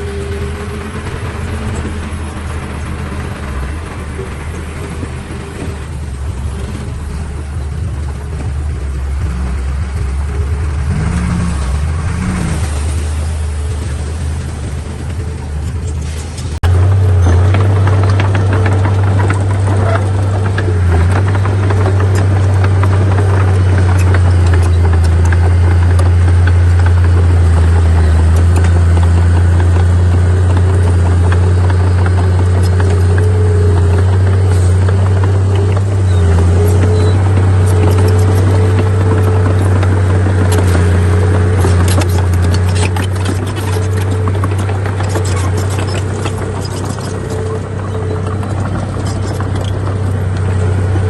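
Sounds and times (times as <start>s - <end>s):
bulldozer diesel engine droning: 0.0s - 51.0s
light clanks and rattles: 0.0s - 51.0s.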